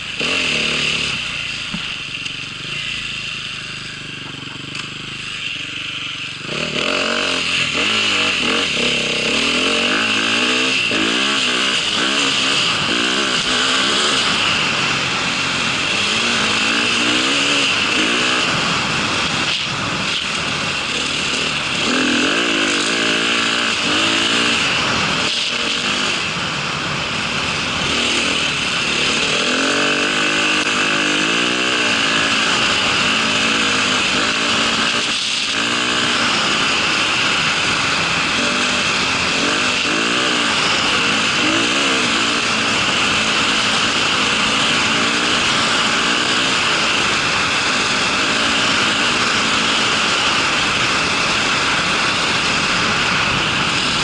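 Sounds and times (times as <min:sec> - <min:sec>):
small vehicle engine revving: 0:00.0 - 0:54.0.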